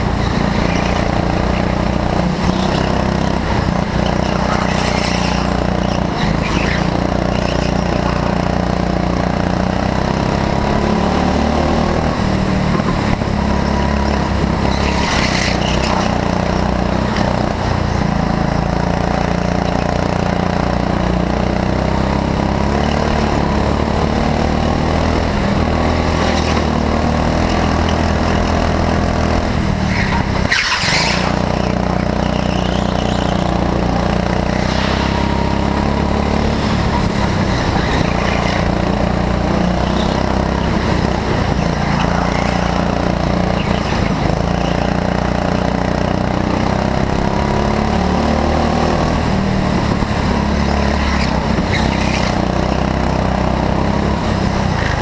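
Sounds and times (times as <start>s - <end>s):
go-kart engine running hard: 0.0s - 55.0s.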